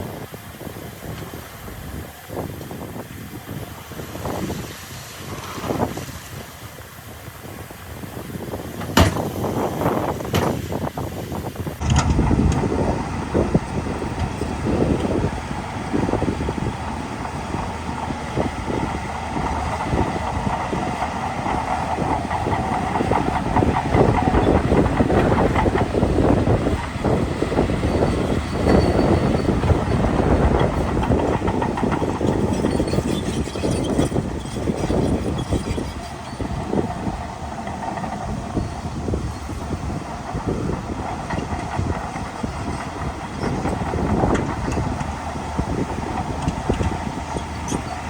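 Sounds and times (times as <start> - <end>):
bulldozer engine under load: 0.0 - 48.0
steel crawler tracks clattering: 0.0 - 48.0.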